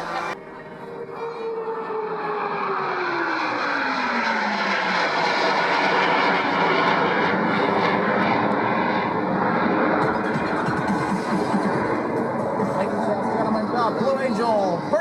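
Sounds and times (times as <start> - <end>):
jet aircraft roaring past: 0.0 - 15.0.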